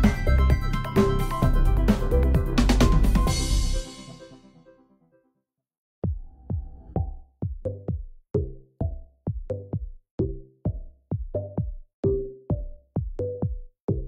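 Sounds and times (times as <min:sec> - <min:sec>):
electronic music with drum machine: 0:00.0 - 0:04.6, 0:06.0 - 0:14.0.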